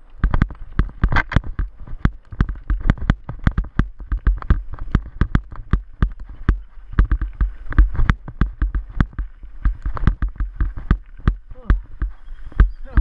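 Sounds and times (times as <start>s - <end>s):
mountain bike rattling and knocking: 0.0s - 13.0s
wind rumble on microphone: 0.0s - 13.0s.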